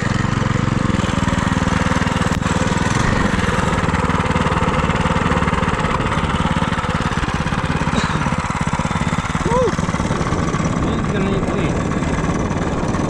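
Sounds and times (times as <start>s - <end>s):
minibike engine running: 0.0s - 13.0s.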